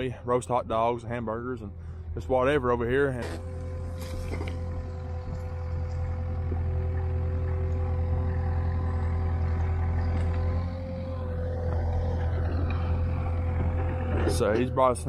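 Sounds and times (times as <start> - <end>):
high engine whine: 0.0 - 15.0
skid steer engine running: 0.0 - 15.0.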